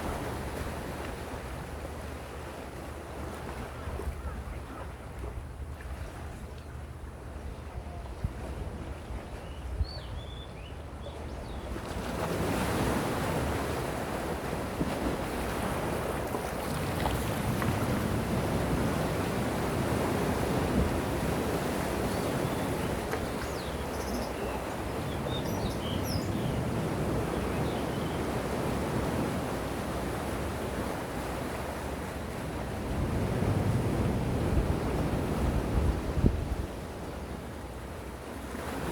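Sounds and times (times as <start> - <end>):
sea waves washing ashore: 0.0 - 9.3, 11.6 - 38.9.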